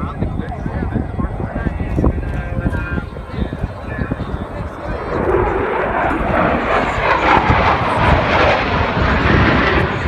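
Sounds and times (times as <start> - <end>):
fighter jet engine roar: 0.0 - 10.0.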